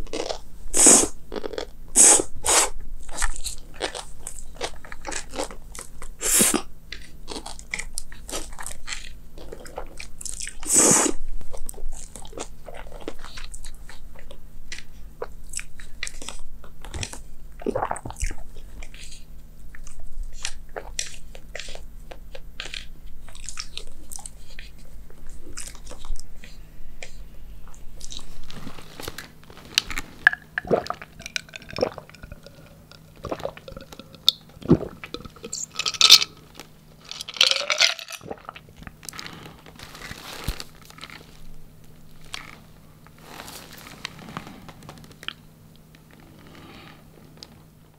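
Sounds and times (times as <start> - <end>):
person chewing crisp food: 0.0 - 41.5, 42.1 - 46.3.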